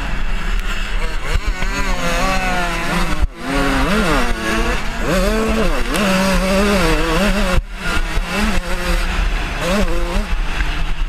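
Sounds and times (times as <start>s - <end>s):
two-stroke motorbike engine revving: 0.0s - 11.0s.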